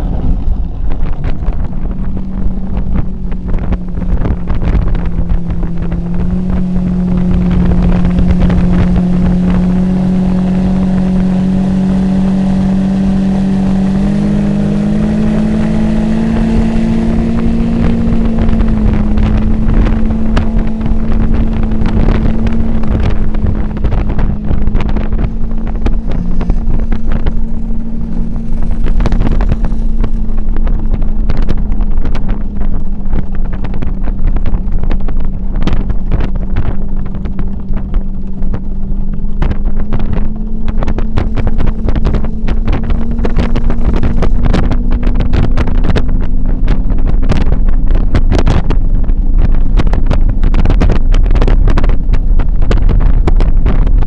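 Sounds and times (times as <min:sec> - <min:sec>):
outboard boat engine at speed: 0:00.0 - 0:54.0
wind buffeting microphone: 0:00.0 - 0:54.0.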